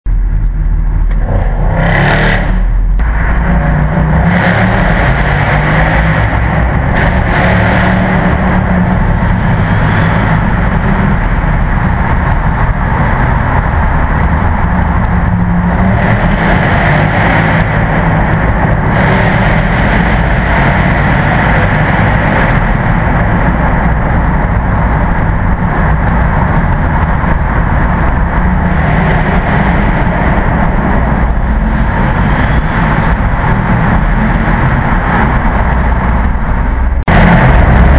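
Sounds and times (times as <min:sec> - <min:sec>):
loud car engine in tunnel: 0:00.0 - 0:37.9.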